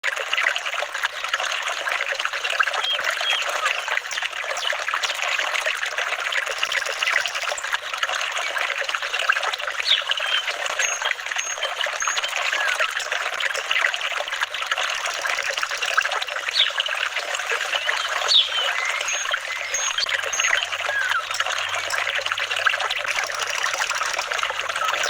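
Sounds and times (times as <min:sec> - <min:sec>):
water trickling and babbling: 0:00.0 - 0:25.0.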